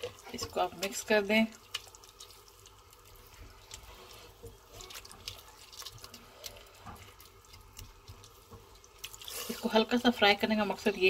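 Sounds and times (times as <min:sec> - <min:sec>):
spoon stirring wet food in pot: 0:00.0 - 0:11.0.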